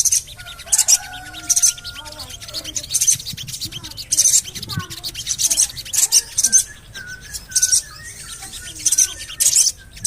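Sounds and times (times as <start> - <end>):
songbird clear chirps: 0.0 - 10.0
songbird harsh scratchy calls: 0.0 - 10.0.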